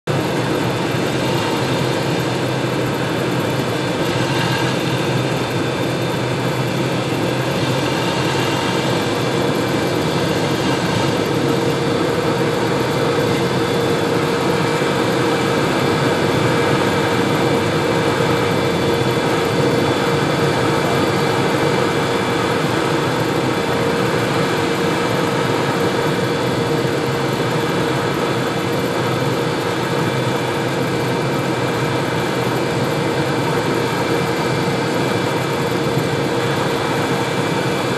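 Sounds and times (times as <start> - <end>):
aircraft engine and propeller drone: 0.0 - 37.9
airflow noise: 0.1 - 37.9.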